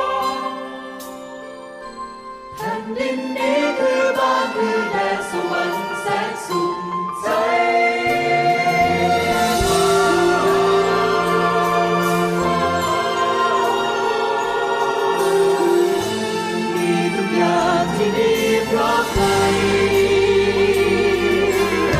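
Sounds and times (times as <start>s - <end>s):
instrumental accompaniment: 0.0s - 21.9s.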